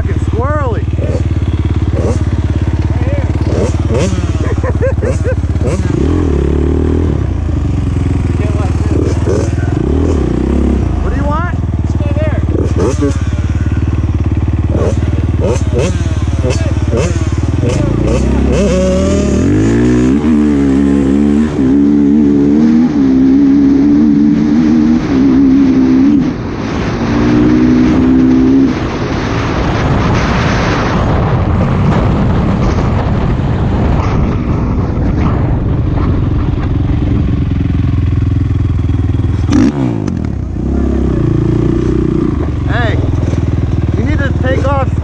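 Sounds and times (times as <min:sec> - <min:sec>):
quad engine accelerating: 0:00.0 - 0:45.0.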